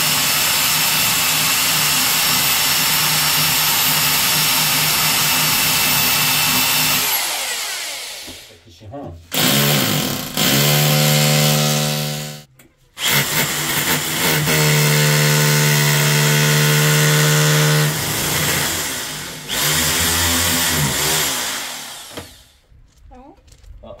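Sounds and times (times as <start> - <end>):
hammer drill boring into masonry: 0.0 - 8.5, 9.3 - 22.5.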